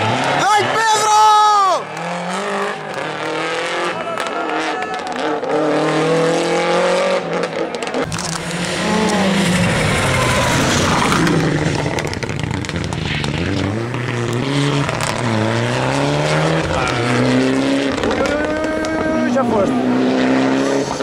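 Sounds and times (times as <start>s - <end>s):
rally car engines revving: 0.0s - 21.0s
tyre and road noise: 0.0s - 21.0s.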